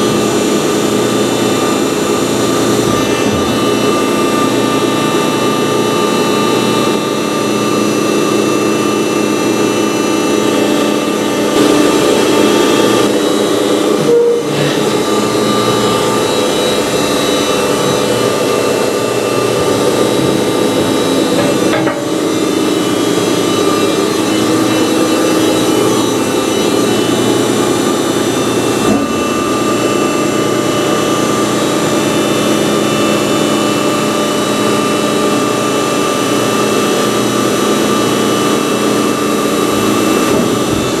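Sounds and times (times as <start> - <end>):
baler motor humming: 0.0 - 41.0.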